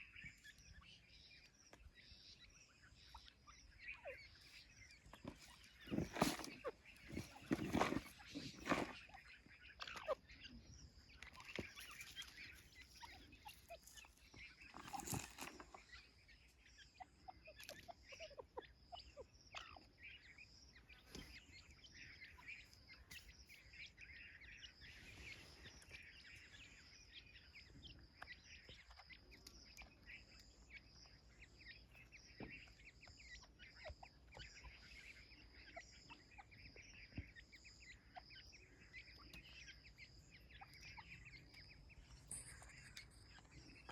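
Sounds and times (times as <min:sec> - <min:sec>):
partridge clucking and chirping: 0:00.0 - 0:43.9.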